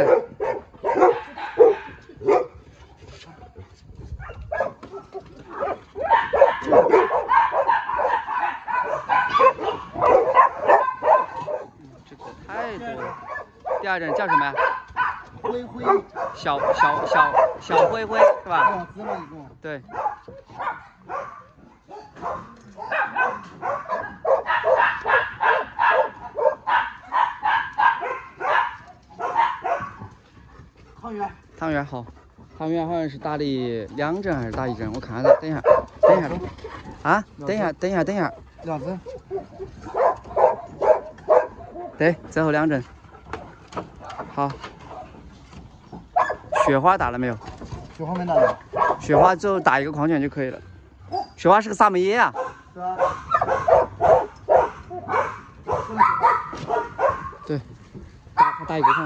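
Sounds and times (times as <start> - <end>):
dogs barking and yipping: 0.0 - 59.0.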